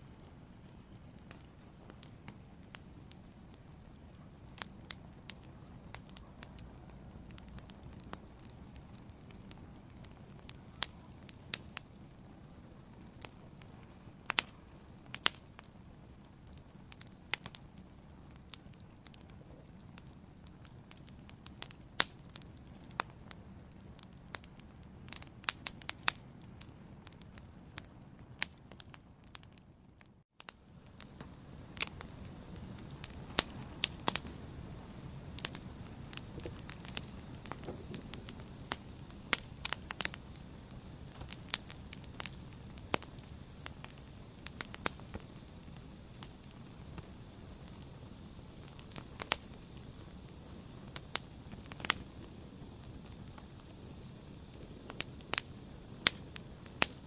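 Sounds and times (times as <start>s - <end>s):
crackles and pops of burning logs: 0.0s - 57.0s
fire burning in a fireplace: 0.0s - 57.0s.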